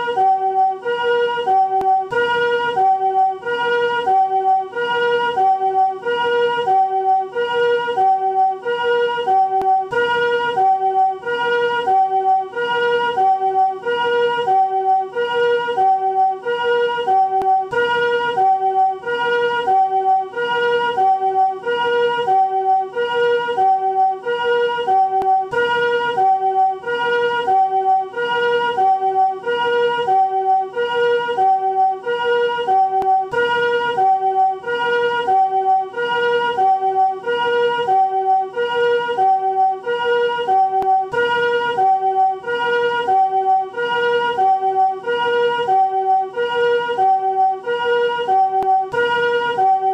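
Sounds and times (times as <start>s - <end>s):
two-tone ambulance siren: 0.0s - 49.9s.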